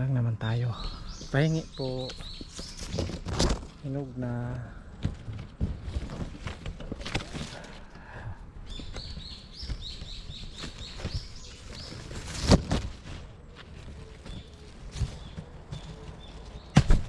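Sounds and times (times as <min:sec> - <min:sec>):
handling clicks and rustles: 0:02.0 - 0:17.0.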